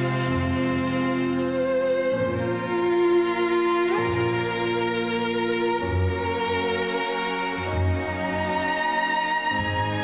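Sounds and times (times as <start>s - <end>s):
bowed strings sustained chords: 0.0s - 10.0s.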